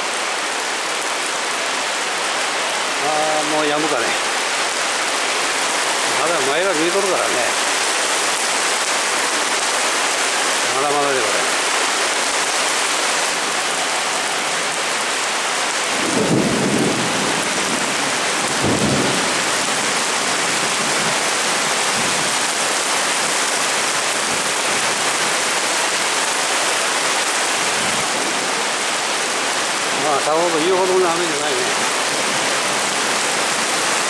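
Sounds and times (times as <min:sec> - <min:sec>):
heavy rain on paving: 0:00.0 - 0:34.0.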